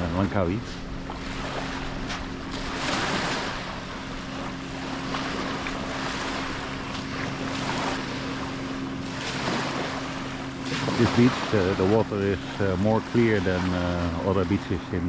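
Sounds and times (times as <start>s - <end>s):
small waves washing onto beach: 0.0s - 15.0s.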